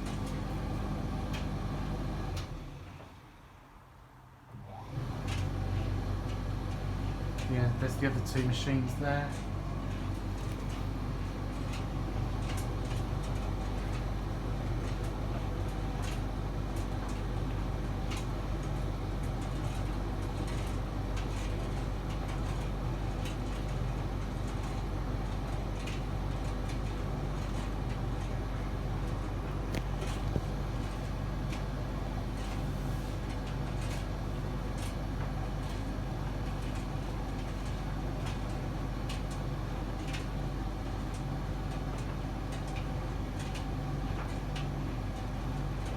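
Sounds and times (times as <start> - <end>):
tumble dryer hum: 0.0 - 2.6, 4.9 - 45.9
air blowing from vent: 0.0 - 3.5, 4.5 - 45.9.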